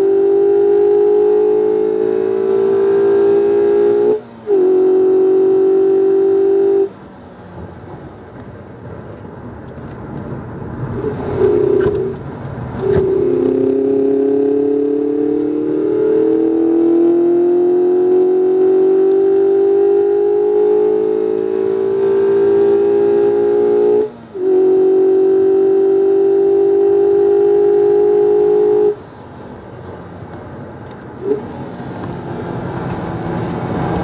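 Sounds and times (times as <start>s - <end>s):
car engine at high revs: 0.0s - 34.0s.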